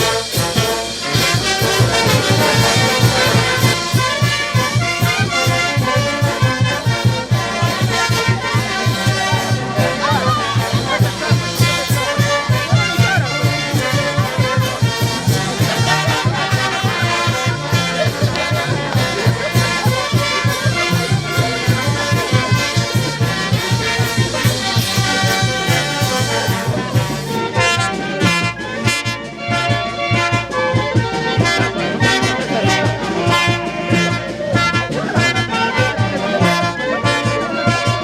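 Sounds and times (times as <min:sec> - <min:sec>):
brass band playing festive music: 0:00.0 - 0:38.0.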